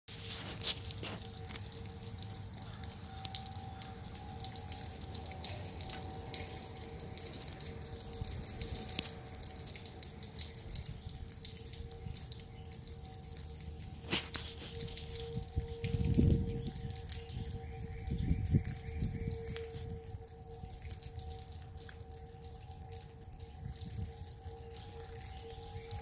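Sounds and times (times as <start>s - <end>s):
eerie two-tone hum: 0.7s - 26.0s.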